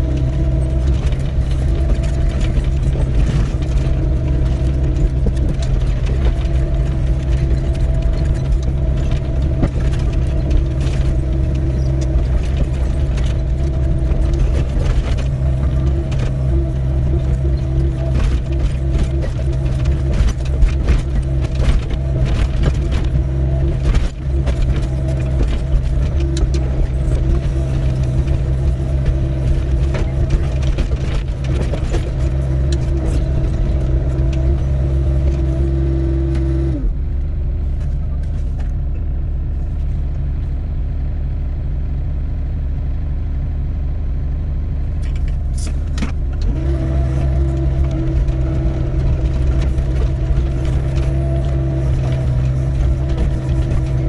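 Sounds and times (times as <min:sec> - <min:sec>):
excavator diesel engine working: 0:00.0 - 0:54.0.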